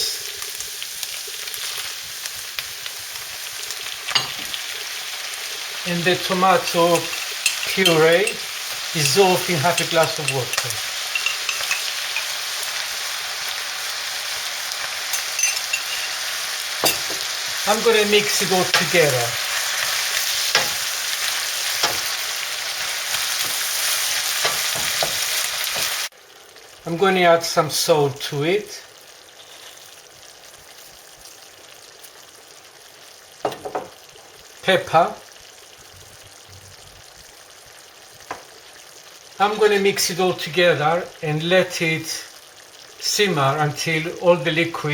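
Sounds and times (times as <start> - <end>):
meat sauce sizzling in a pan: 0.0 - 44.9.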